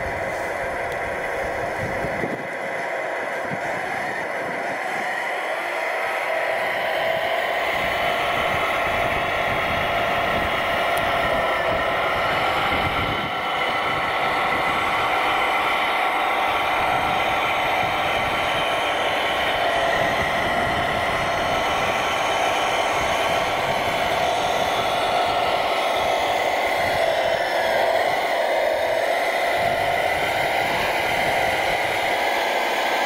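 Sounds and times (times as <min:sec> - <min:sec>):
model wheel loader mechanical whine: 0:00.0 - 0:33.0.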